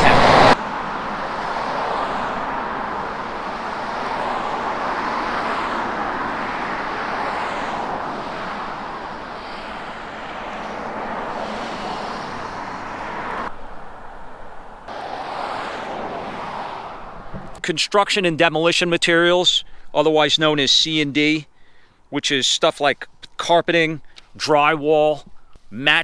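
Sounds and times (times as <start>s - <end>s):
road traffic vehicles passing: 0.0s - 26.0s.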